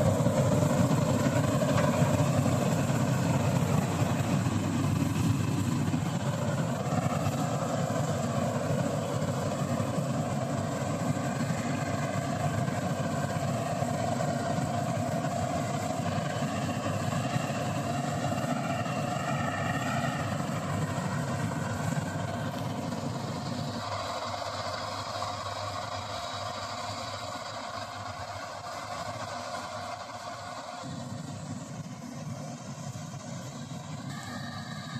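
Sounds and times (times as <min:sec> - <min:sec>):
combine harvester drone: 0:00.0 - 0:34.9.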